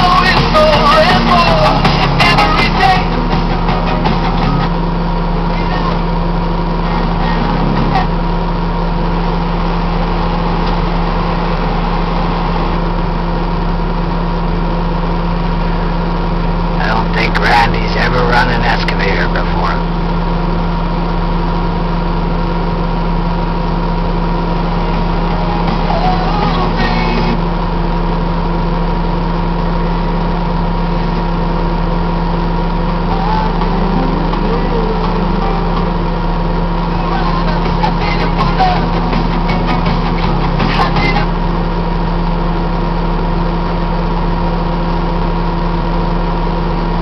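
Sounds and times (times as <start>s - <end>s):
heavy diesel engines droning: 0.0s - 47.0s.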